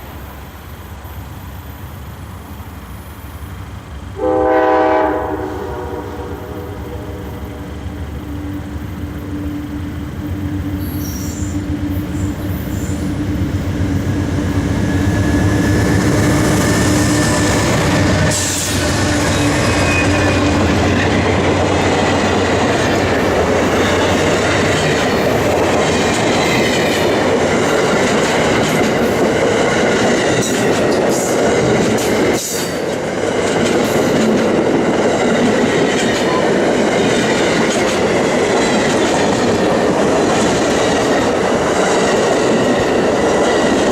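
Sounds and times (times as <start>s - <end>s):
train engine hum: 0.0s - 43.9s.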